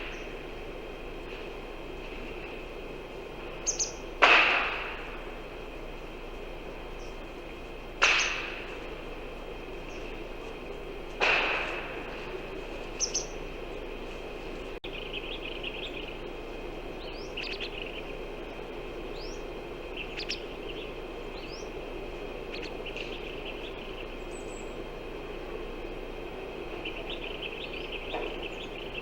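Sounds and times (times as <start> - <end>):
wild birds chirping: 0.0 - 29.0.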